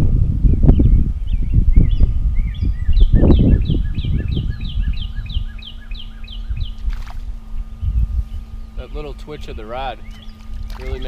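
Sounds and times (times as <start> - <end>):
wind rumble on microphone: 0.0 - 11.0
songbird whistling: 0.5 - 6.9, 7.6 - 11.0.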